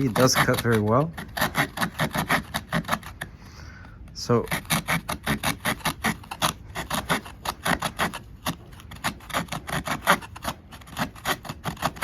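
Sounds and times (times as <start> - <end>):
saw rasping through wood: 0.0 - 3.3, 4.2 - 12.0.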